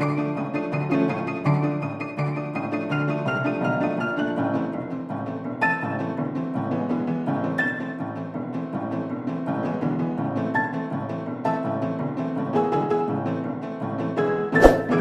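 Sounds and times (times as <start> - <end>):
piano: 0.0 - 15.0.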